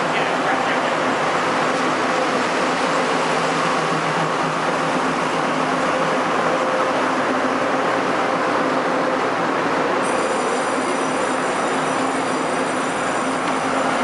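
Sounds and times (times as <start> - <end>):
diesel railcar engine running: 0.0 - 14.0.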